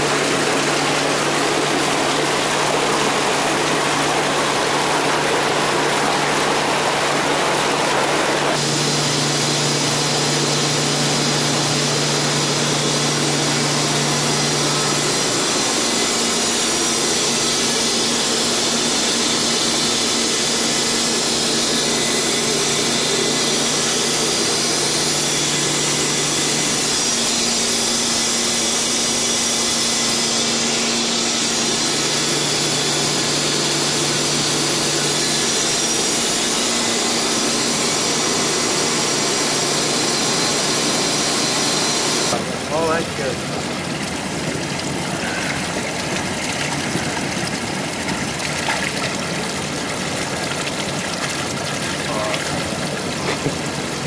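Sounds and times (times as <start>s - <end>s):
low machine hum: 0.0s - 54.0s
pump machinery running: 0.0s - 54.0s.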